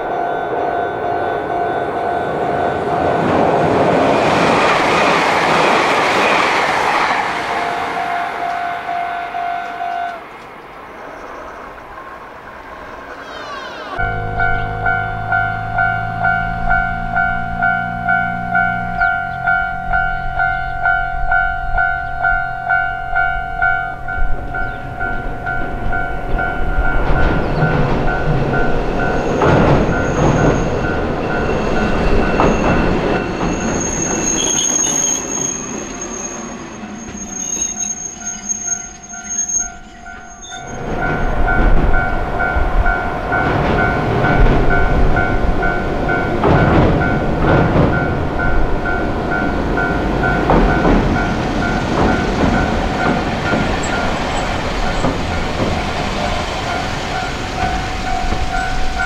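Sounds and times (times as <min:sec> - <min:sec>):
level-crossing warning bell: 0:00.0 - 0:04.7, 0:07.4 - 0:10.2, 0:14.0 - 0:59.0
tram rumble with wheel clatter: 0:00.0 - 0:59.0
tram wheels squealing: 0:00.0 - 0:59.0.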